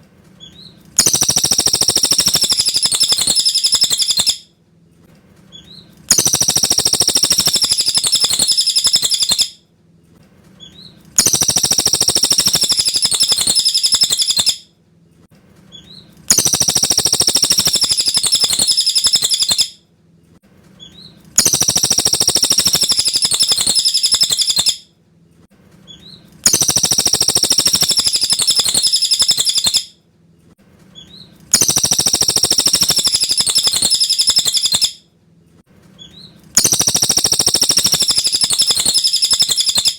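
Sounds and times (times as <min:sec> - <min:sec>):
bird singing high phrases: 0:00.4 - 0:04.5, 0:05.5 - 0:09.6, 0:10.6 - 0:14.6, 0:15.7 - 0:19.8, 0:20.8 - 0:24.8, 0:25.9 - 0:29.9, 0:31.0 - 0:35.0, 0:36.0 - 0:39.9.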